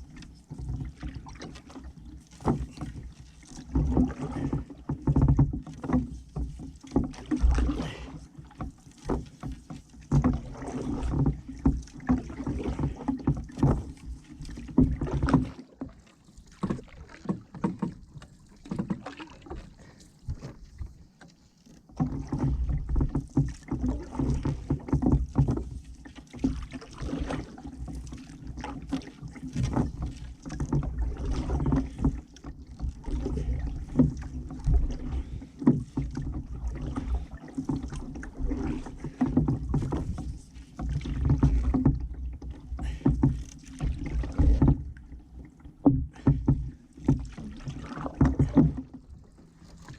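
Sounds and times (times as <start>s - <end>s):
canoe paddle splashing water: 0.0s - 49.9s.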